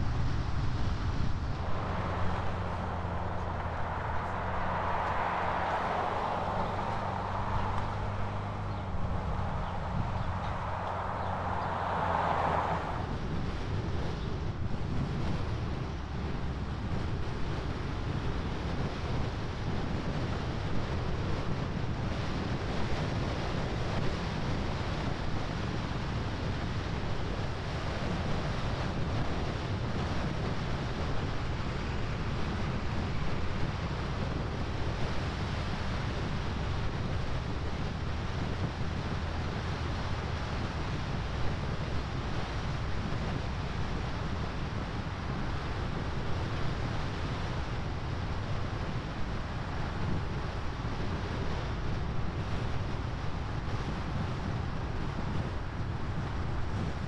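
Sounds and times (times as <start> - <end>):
tyre noise on paved road: 0.0 - 57.0
wind on microphone: 0.0 - 57.0.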